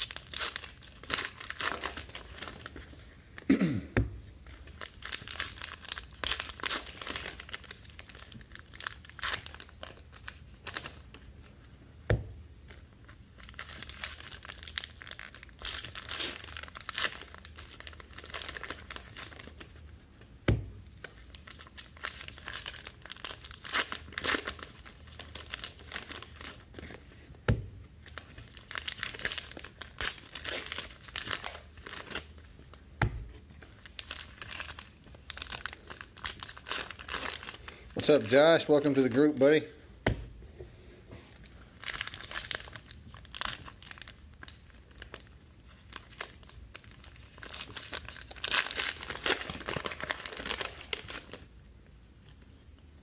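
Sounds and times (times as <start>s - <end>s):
plastic wrappers crinkling and tearing: 0.0s - 3.5s, 4.4s - 11.6s, 12.7s - 20.0s, 20.9s - 27.3s, 28.0s - 32.9s, 33.5s - 39.7s, 41.6s - 53.0s.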